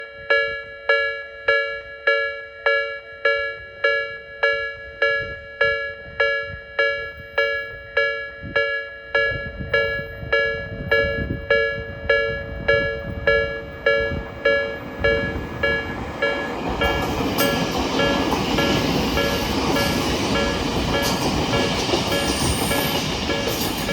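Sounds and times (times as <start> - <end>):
level-crossing bell clanging: 0.1 - 23.9
train running noise: 3.4 - 23.9.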